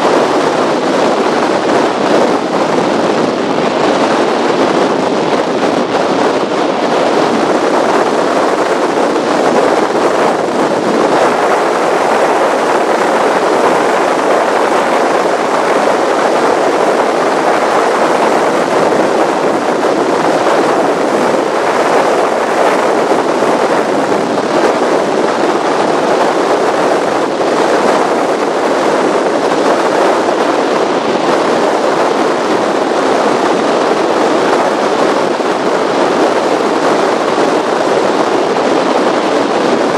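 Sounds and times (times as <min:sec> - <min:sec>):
boat engine running: 0:00.0 - 0:39.9
water rushing over hull: 0:00.0 - 0:39.9
wind buffeting microphone: 0:00.0 - 0:39.9.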